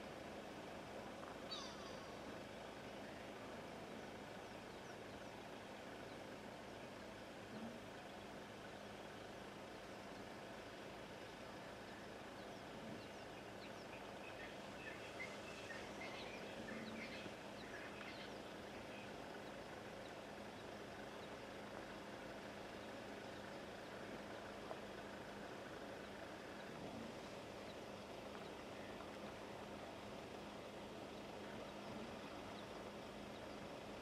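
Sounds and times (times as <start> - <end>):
steady low hum: 0.0 - 34.0
small birds chirping: 1.1 - 34.0.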